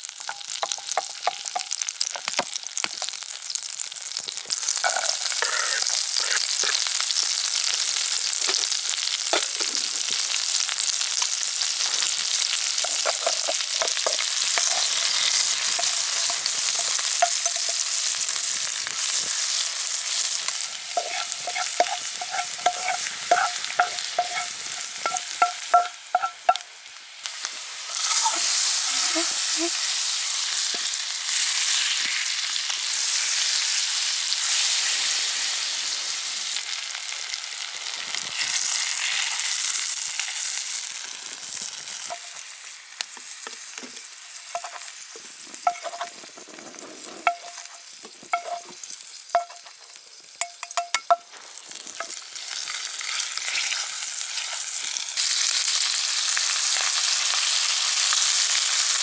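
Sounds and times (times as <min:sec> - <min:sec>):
butter and garlic sizzling in pan: 0:00.0 - 0:59.0.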